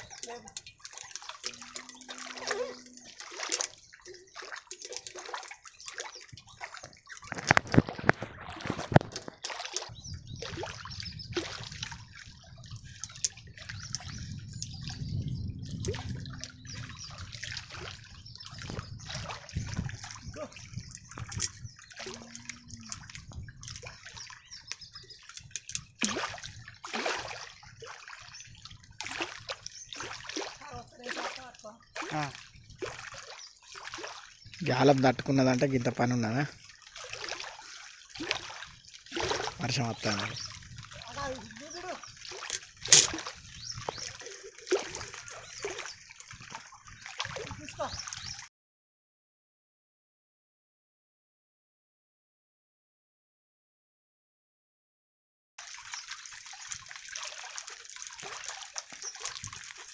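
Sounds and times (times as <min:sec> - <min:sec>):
water splashing and sloshing: 0:00.0 - 0:48.5, 0:55.6 - 0:59.9.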